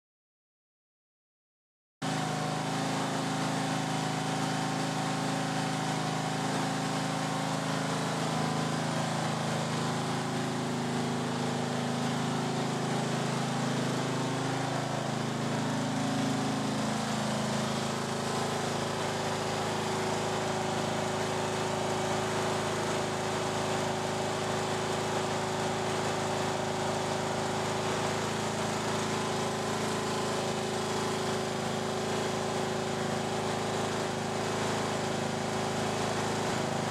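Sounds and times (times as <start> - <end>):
riding mower engine running: 2.0 - 36.9.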